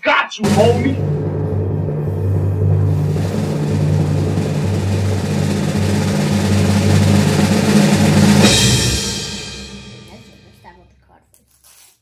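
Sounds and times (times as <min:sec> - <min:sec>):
cymbal crash: 0:00.4 - 0:10.6
timpani drum roll: 0:00.4 - 0:10.8.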